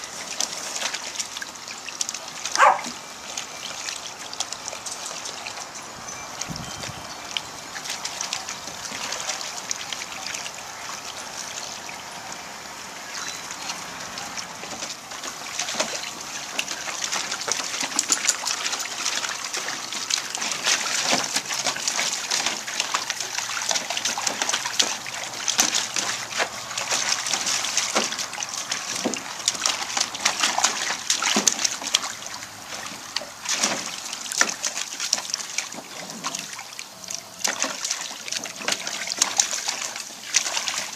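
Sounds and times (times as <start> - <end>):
garden hose trickling: 0.0 - 40.9
puppies splashing in water: 0.0 - 40.9.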